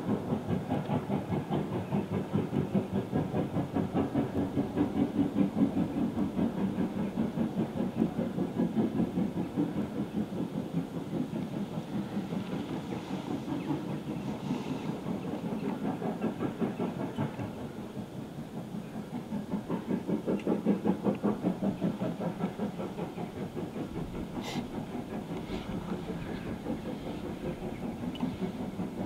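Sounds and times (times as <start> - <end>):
steam locomotive exhaust beating: 0.0 - 29.0.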